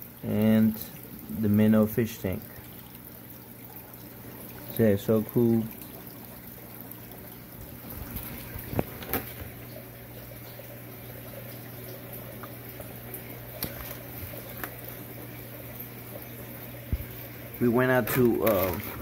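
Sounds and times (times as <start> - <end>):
aquarium water bubbling: 0.0 - 19.0.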